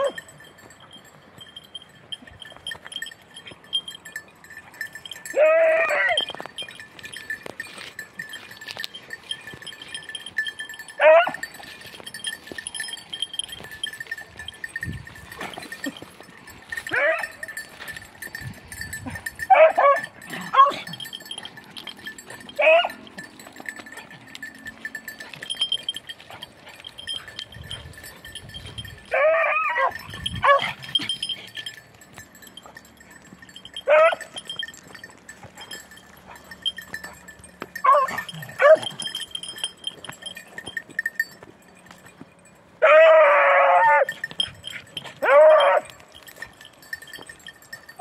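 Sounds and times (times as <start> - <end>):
dogs baying: 0.0 - 0.4, 4.5 - 41.6, 42.7 - 48.0.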